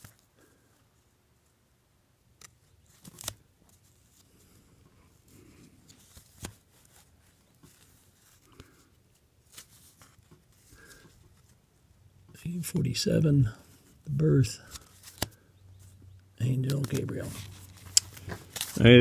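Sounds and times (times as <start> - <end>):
faint rustling of paper sleeves: 2.4 - 19.0.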